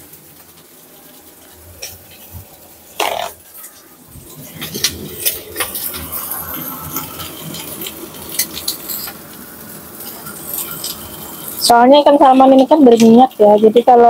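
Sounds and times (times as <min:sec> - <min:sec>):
fish sizzling in hot oil: 0:00.0 - 0:14.0
spitting oil crackles and pops: 0:00.0 - 0:14.0.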